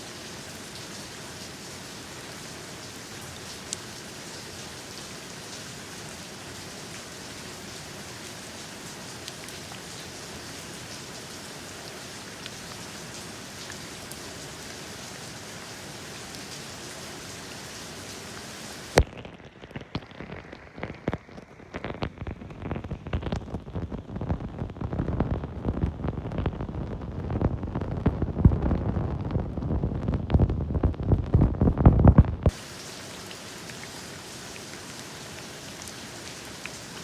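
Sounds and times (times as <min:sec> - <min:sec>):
steady rain hiss: 0:00.0 - 0:31.0, 0:31.6 - 0:37.0.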